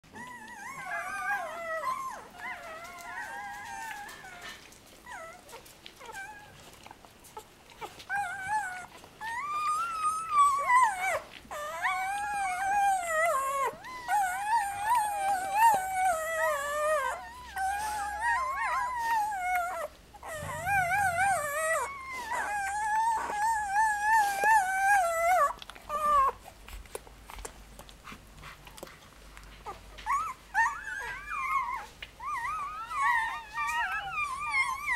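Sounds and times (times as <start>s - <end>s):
puppies whimpering and squealing: 0.0s - 27.6s, 29.5s - 34.9s.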